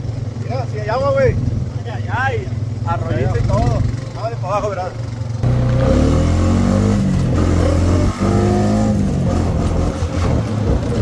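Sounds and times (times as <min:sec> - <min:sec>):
atv engine accelerating: 0:00.0 - 0:11.0.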